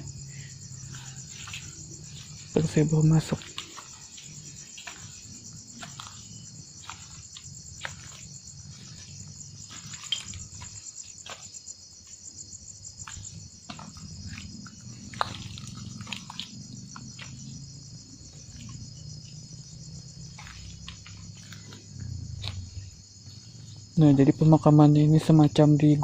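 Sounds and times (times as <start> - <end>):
night insects trilling: 0.0 - 26.0.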